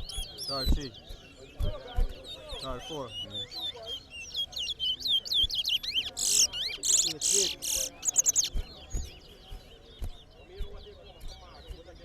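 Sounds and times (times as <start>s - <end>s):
songbirds whistling warbling notes: 0.0s - 12.0s.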